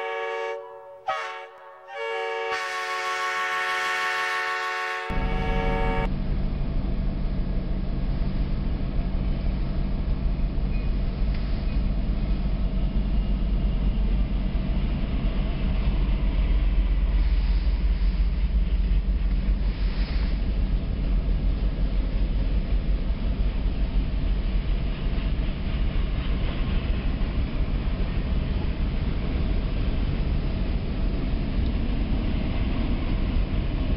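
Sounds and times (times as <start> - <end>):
freight train rolling past: 0.0 - 33.9.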